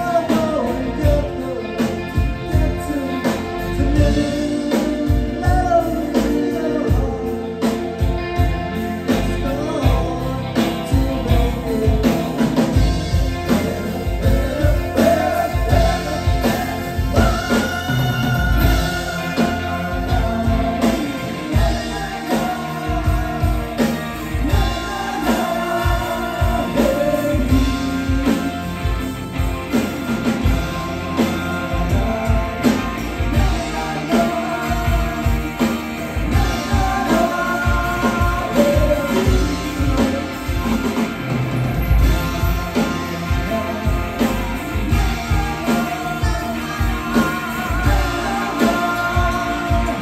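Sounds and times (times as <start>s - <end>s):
bass guitar: 0.0s - 50.0s
drum kit beat: 0.0s - 50.0s
electric guitar: 0.0s - 50.0s
keyboard: 0.0s - 50.0s
man singing lead vocal: 0.0s - 50.0s.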